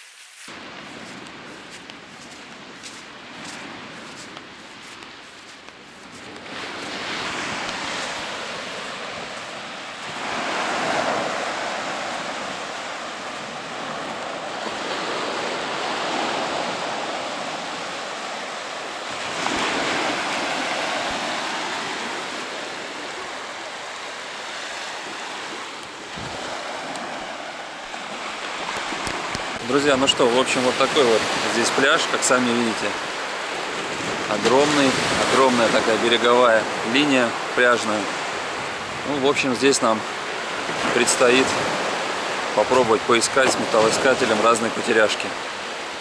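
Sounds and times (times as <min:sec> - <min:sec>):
sea surf breaking on sand: 0:00.0 - 0:46.0.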